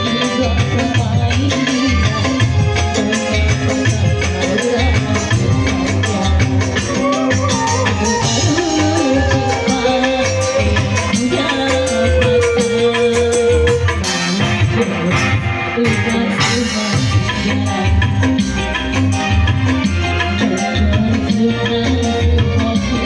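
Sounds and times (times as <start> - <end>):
band music: 0.0 - 23.0.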